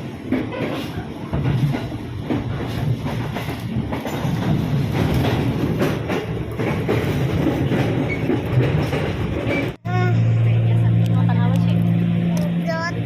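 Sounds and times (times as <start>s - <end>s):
train carriage running noise: 0.0s - 13.0s.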